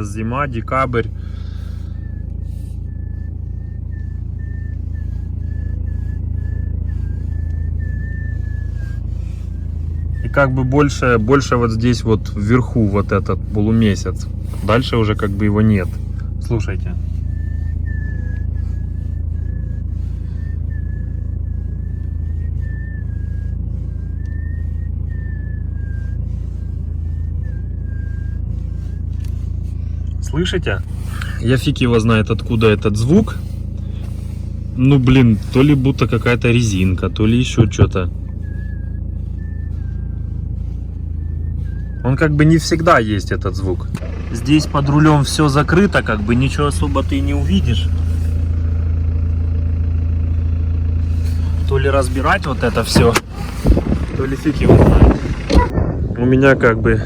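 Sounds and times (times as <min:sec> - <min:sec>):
steering whistling: 0:00.0 - 0:55.8
diesel engine idling: 0:00.0 - 0:57.0.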